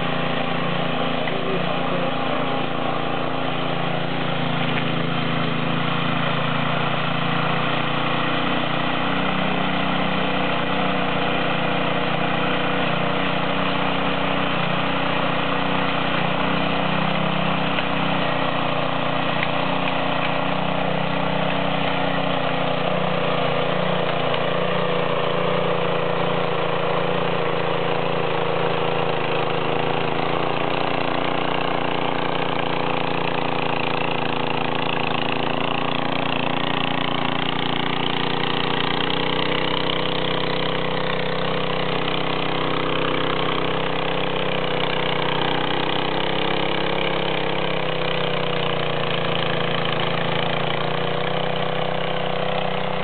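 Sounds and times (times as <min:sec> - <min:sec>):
tiller engine running under load: 0:00.0 - 0:53.0
tines churning dry soil: 0:00.0 - 0:53.0.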